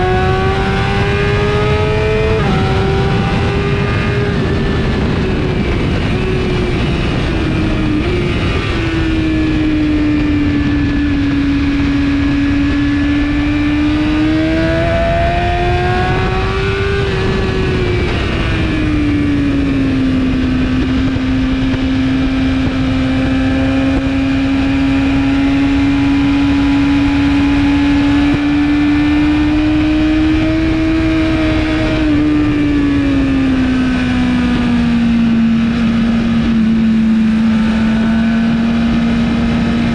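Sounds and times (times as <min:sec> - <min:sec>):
motorcycle engine at high revs: 0:00.0 - 0:39.9
wind rushing: 0:00.0 - 0:39.9.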